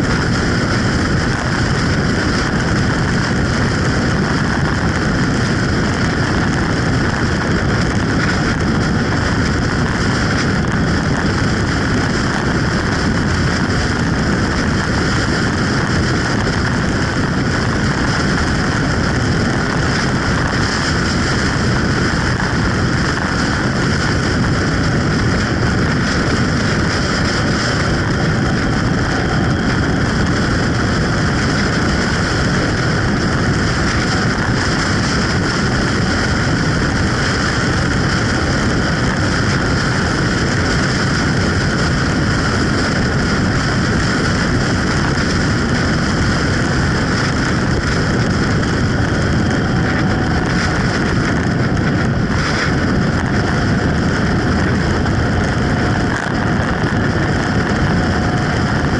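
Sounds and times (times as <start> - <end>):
motorcycle engine: 0.0 - 58.9
wind buffeting microphone: 0.0 - 58.9.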